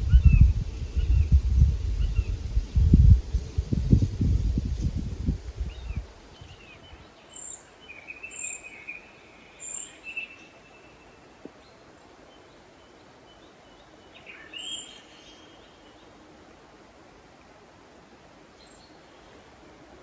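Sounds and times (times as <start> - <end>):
birds chirping: 0.0 - 16.2
faint steady hiss: 0.0 - 20.0.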